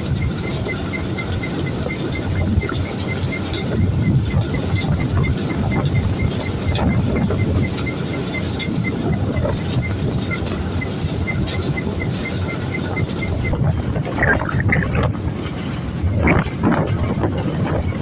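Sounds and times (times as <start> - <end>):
farm machine rumbling: 0.0 - 18.0.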